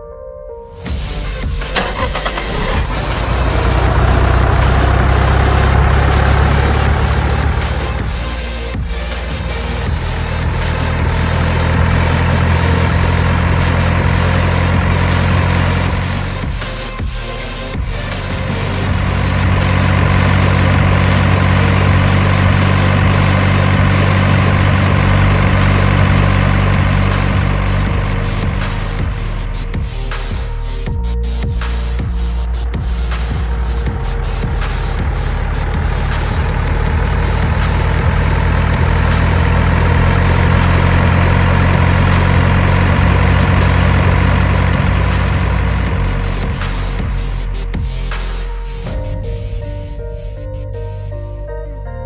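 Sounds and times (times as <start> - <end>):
engine running with low hum: 0.9 - 49.5.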